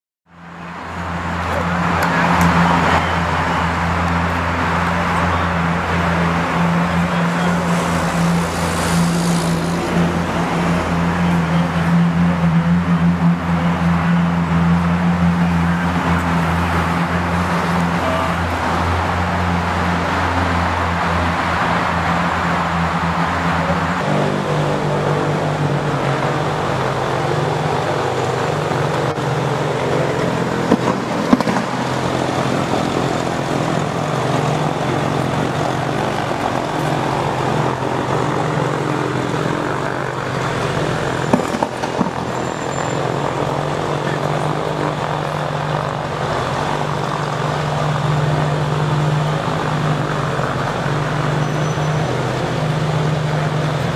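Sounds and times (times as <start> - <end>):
supercar engines idling: 0.4 - 53.9.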